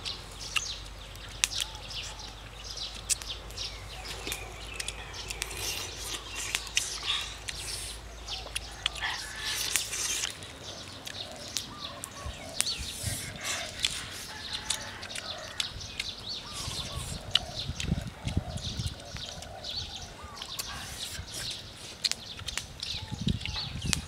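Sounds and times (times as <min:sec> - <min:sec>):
birds chirping: 0:00.0 - 0:24.0
rustling of leaves: 0:00.0 - 0:24.0.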